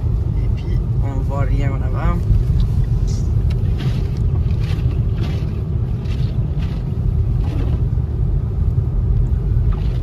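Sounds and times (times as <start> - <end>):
road and wind noise inside car: 0.0 - 10.0.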